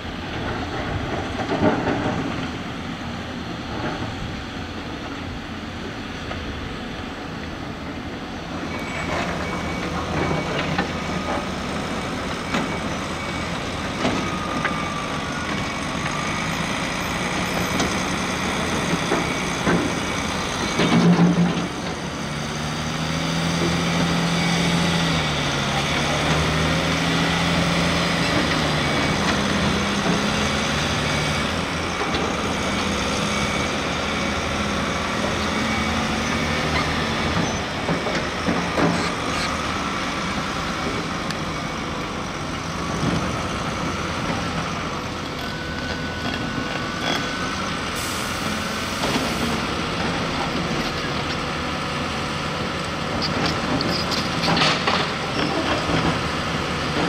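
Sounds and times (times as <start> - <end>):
dump truck diesel engine: 0.0 - 57.0.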